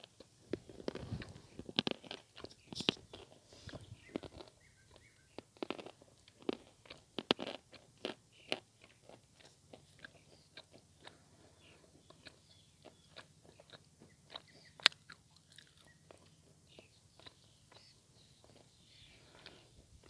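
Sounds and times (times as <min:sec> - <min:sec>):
chalk being chewed: 0:00.0 - 0:19.6.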